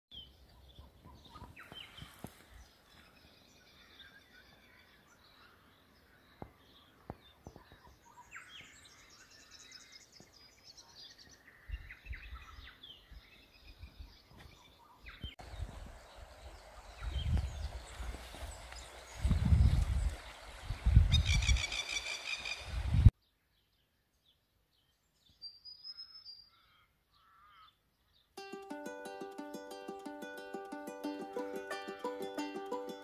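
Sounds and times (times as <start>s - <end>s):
outdoor background noise: 0.1s - 29.5s.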